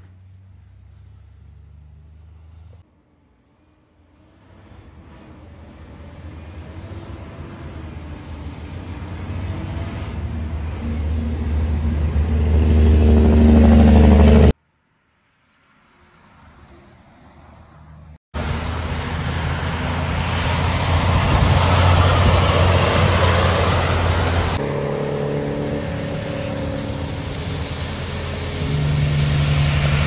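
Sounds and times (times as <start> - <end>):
quieter truck engine passing: 0.0 - 14.6, 15.8 - 30.0
truck diesel engine passing: 0.0 - 14.6, 16.2 - 30.0.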